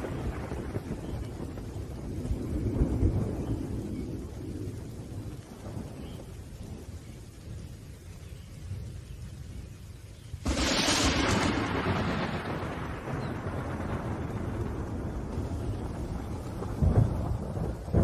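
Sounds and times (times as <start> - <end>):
rolling thunder: 0.0 - 7.8, 10.4 - 18.0
steady rain: 0.0 - 18.0.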